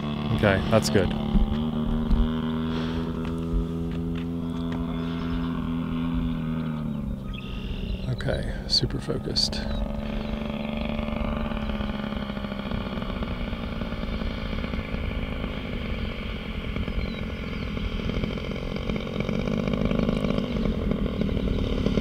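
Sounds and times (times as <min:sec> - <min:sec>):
model plane engine running: 0:00.0 - 0:22.0.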